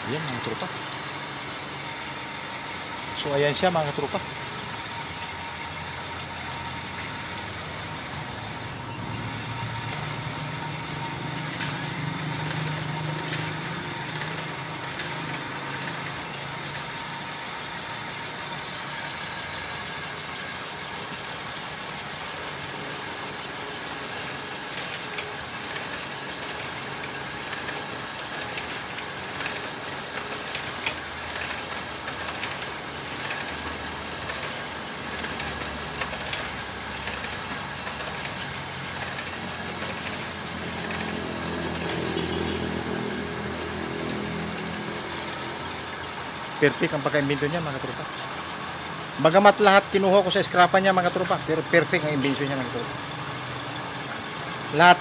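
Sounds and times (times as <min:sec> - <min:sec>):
honing machine whirring: 0:00.0 - 0:20.3, 0:21.0 - 0:55.0.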